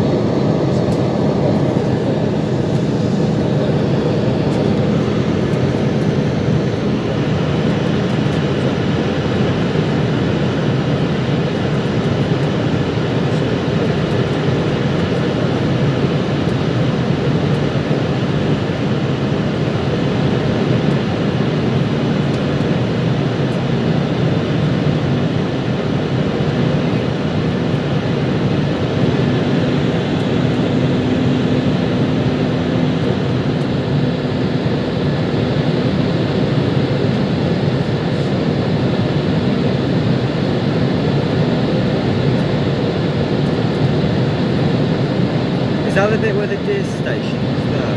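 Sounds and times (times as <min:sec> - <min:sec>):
airliner cabin engine roar: 0:00.0 - 0:47.9.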